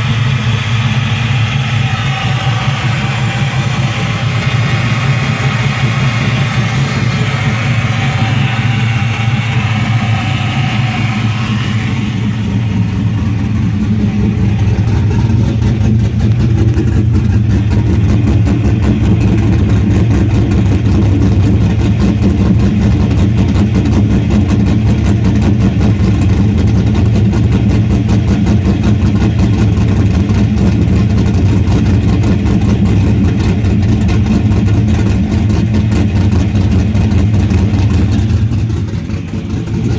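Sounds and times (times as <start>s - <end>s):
vee-eight engine idling: 0.0s - 39.9s.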